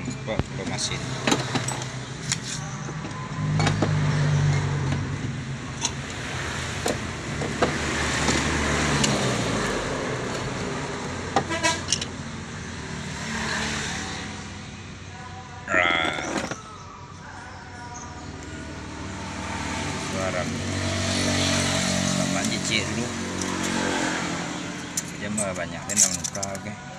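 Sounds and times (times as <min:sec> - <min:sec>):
engine running and revving: 0:00.0 - 0:15.0, 0:18.2 - 0:26.6.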